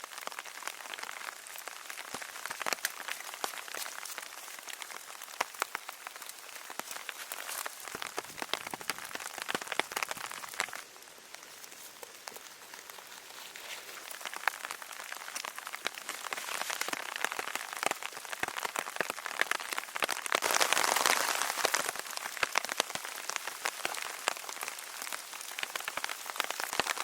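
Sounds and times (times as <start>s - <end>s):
raindrops striking a surface: 0.0s - 27.0s
steady rain hiss: 0.0s - 27.0s.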